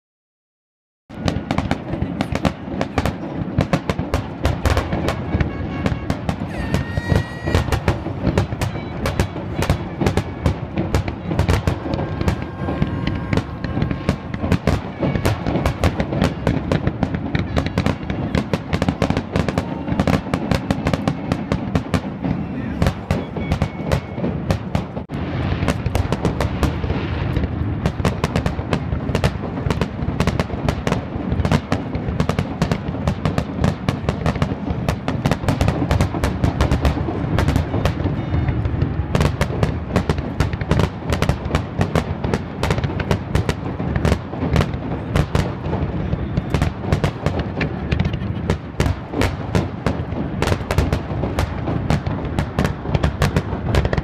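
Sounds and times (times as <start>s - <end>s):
fireworks bursting: 1.1s - 54.0s.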